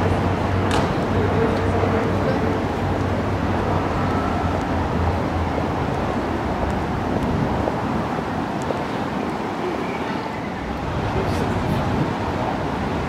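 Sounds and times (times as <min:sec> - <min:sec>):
city traffic hum: 0:00.0 - 0:13.0.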